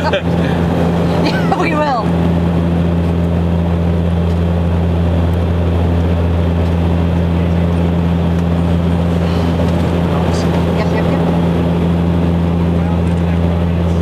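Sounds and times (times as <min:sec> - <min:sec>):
turboprop engines droning: 0:00.0 - 0:14.0.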